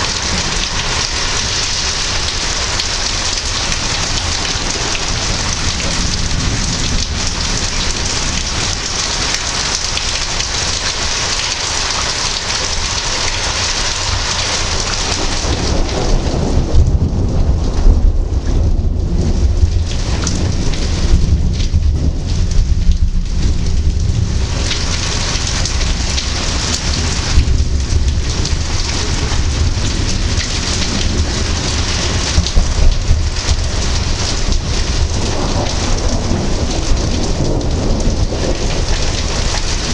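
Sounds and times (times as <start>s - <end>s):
deep rolling thunder: 0.0s - 39.9s
heavy rain falling: 0.0s - 39.9s.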